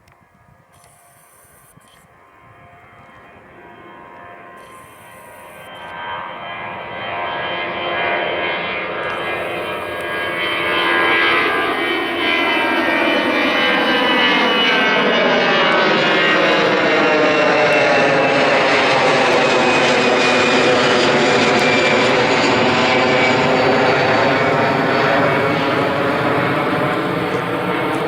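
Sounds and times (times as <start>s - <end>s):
jet engines roaring: 2.1s - 28.0s.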